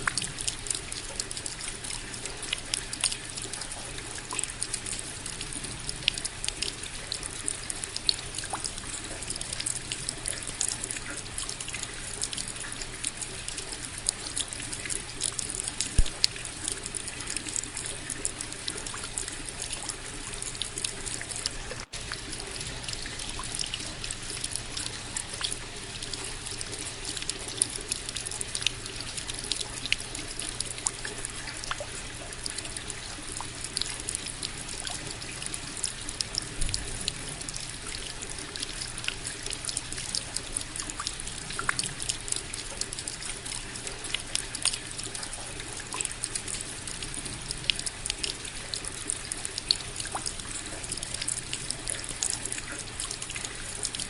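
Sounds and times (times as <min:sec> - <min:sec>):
steady rain falling: 0:00.0 - 0:52.2.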